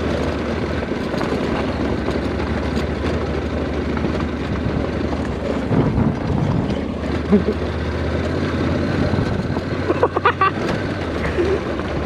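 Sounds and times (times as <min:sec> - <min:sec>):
motorcycle engines running: 0:00.0 - 0:12.0
motorcycle parts rattling: 0:00.0 - 0:12.0.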